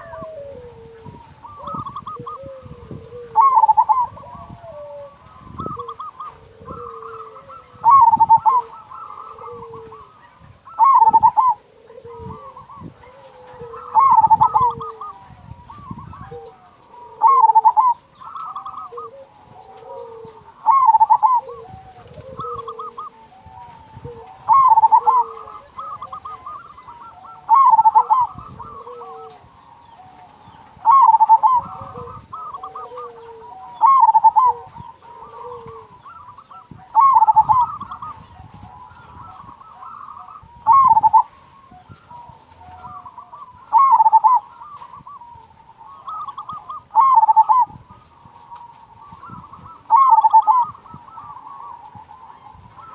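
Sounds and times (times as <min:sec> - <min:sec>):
rolling dove coo: 0:00.0 - 0:52.9
soft dove cooing: 0:00.0 - 0:52.9.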